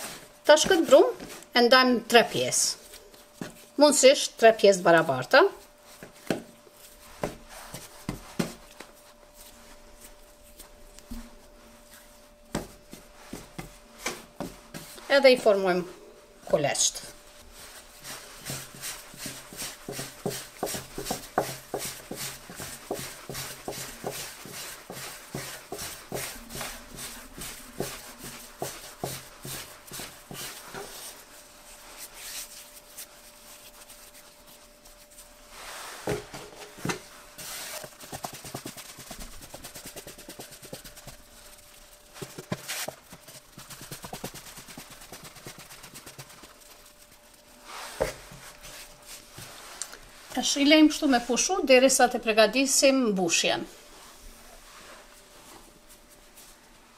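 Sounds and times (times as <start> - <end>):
dough patting and rubbing: 0.0 - 4.0, 4.8 - 15.9, 16.5 - 52.0.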